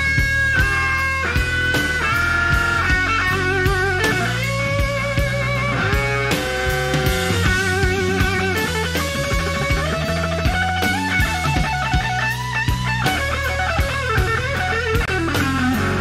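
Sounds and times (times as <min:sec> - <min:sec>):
bass guitar: 0:00.0 - 0:16.0
drums playing slow beat: 0:00.0 - 0:16.0
electric guitar playing slow blues: 0:00.0 - 0:16.0.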